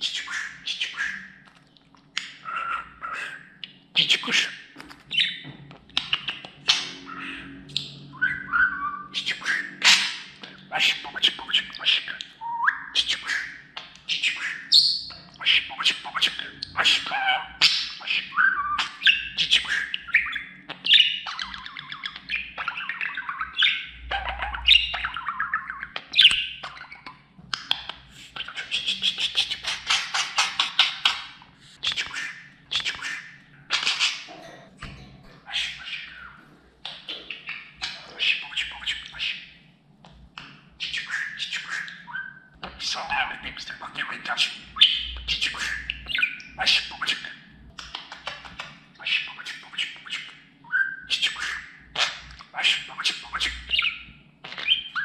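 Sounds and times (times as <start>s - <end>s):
budgerigar chirping and chattering: 2.1s - 34.6s, 35.4s - 39.7s, 40.4s - 55.0s.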